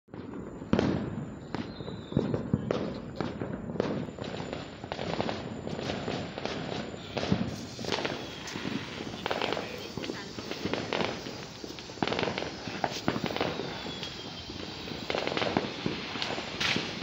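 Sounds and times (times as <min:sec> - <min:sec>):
firecracker bangs and pops: 0:00.1 - 0:17.0
scattered crackling: 0:02.8 - 0:17.0.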